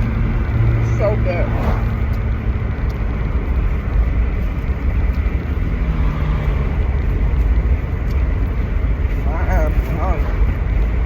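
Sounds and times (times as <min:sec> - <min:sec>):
vehicle rumbling: 0:00.0 - 0:11.0.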